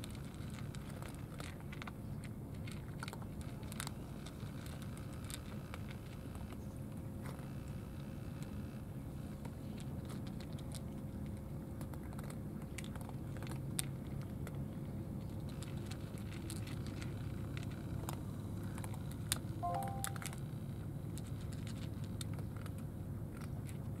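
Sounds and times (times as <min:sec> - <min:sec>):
cat crunching dry kibble: 0:00.0 - 0:07.5, 0:09.1 - 0:24.0.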